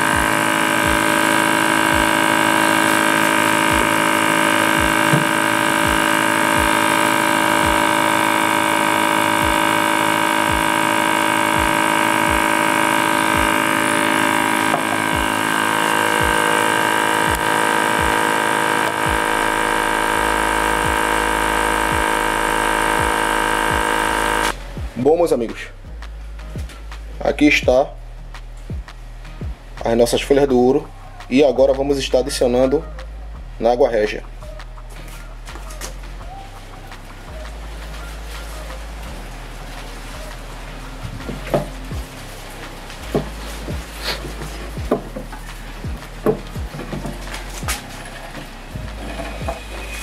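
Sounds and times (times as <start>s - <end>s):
electric vacuum pump humming: 0.0s - 50.0s.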